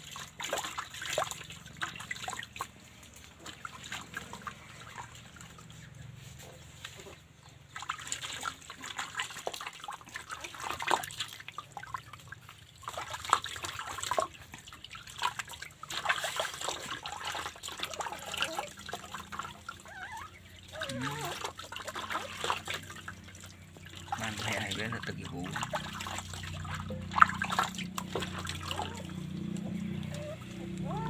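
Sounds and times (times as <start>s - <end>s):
wet slaps and drips: 0.0s - 5.8s, 7.7s - 19.6s, 20.7s - 30.9s
water trickling and splashing: 0.0s - 31.0s.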